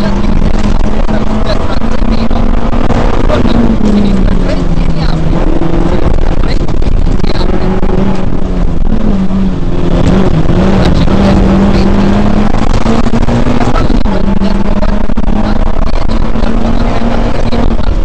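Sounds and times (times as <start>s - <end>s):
rally car engine under load: 0.0s - 18.0s.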